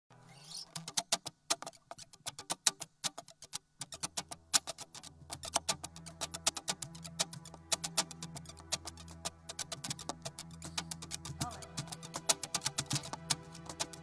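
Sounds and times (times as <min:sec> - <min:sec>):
sharp percussive clicks: 0:00.5 - 0:14.0.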